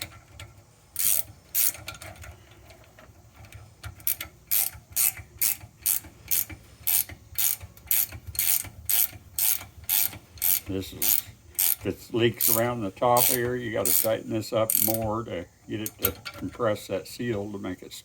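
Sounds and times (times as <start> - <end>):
ratchet wrench clicking: 0.0 - 15.1, 15.8 - 16.4.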